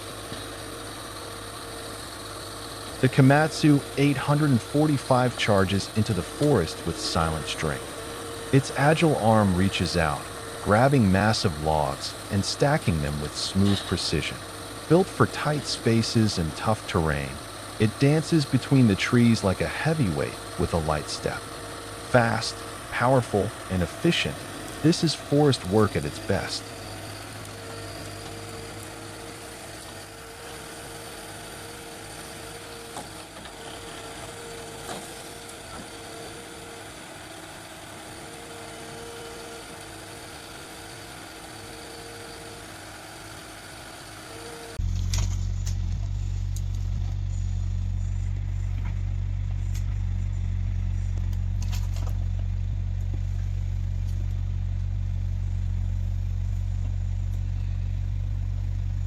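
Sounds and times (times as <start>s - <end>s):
diesel engines running: 0.0s - 59.0s
engine whine: 0.0s - 59.0s.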